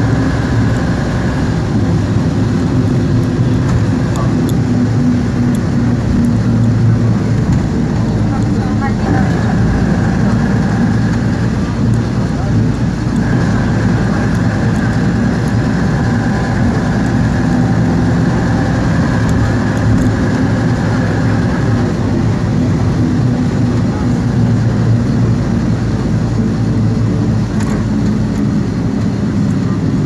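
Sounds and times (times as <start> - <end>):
bus diesel engine running: 0.0 - 30.0
high whine: 0.0 - 30.0.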